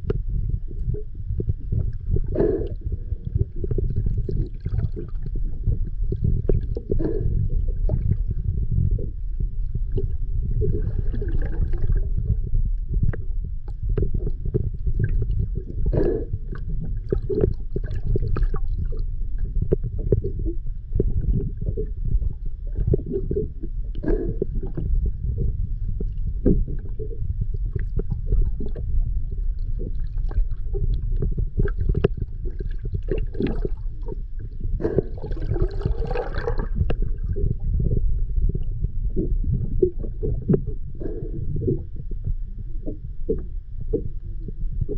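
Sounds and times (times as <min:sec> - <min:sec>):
bubbles gurgling: 0:00.0 - 0:44.9
underwater low rumble: 0:00.0 - 0:44.9.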